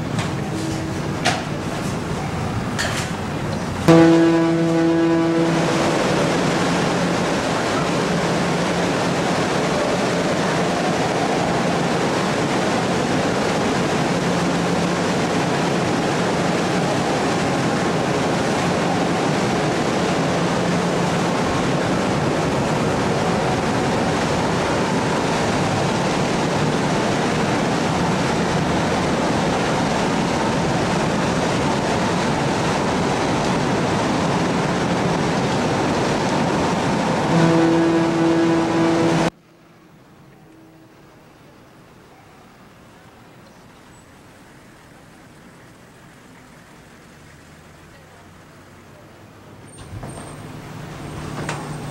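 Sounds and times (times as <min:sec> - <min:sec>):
propeller wake rushing and churning: 0:00.0 - 0:39.4, 0:49.7 - 0:51.9.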